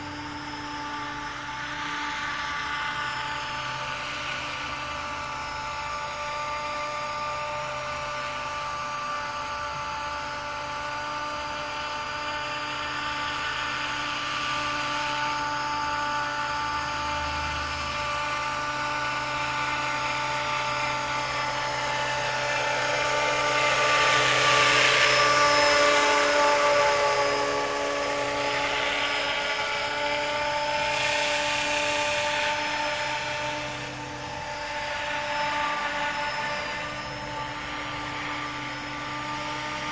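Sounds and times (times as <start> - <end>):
model helicopter motor whine: 0.0 - 39.9.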